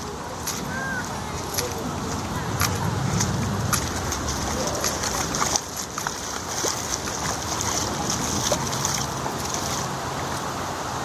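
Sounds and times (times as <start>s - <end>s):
fizzing water splashes: 0.0s - 11.0s
floodwater rushing: 0.0s - 11.0s.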